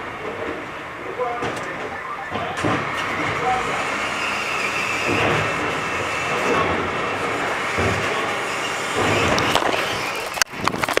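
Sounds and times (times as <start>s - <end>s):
garbage truck mechanical noise: 0.0s - 11.0s.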